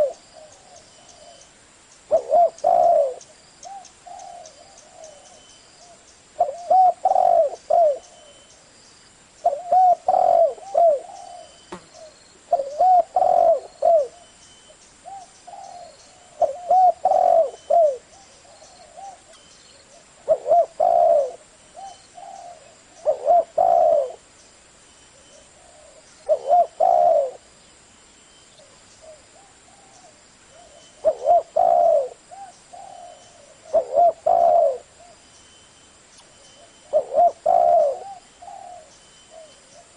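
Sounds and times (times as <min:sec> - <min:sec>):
dove cooing: 0:00.0 - 0:01.4, 0:02.1 - 0:08.4, 0:09.4 - 0:14.3, 0:15.0 - 0:24.3, 0:25.1 - 0:27.5, 0:28.6 - 0:35.2, 0:36.6 - 0:39.9
faint high chirps: 0:00.0 - 0:20.0, 0:20.8 - 0:39.9.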